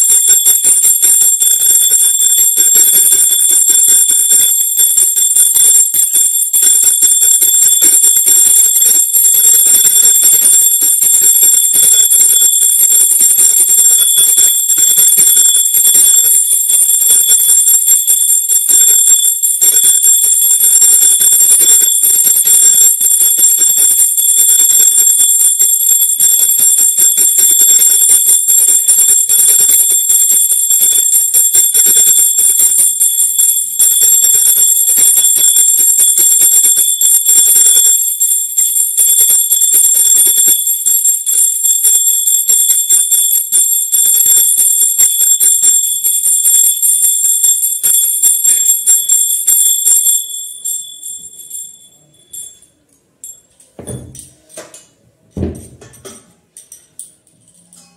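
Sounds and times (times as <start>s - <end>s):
hand bell ringing rapidly: 0.0s - 52.6s, 53.2s - 54.6s.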